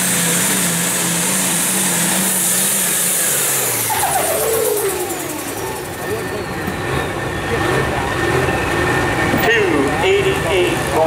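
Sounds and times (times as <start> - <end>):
tractor engine at high revs: 0.0 - 11.0.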